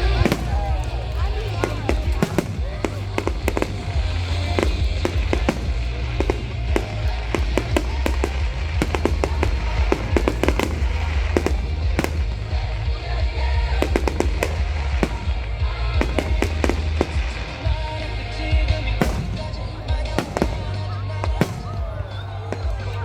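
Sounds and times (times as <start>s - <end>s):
fireworks bangs and crackles: 0.0s - 23.0s
music playing: 0.0s - 23.0s.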